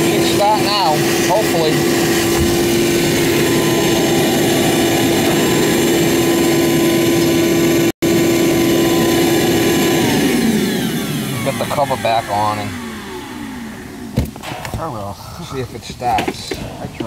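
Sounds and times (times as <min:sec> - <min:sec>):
shop vacuum running: 0:00.0 - 0:14.5.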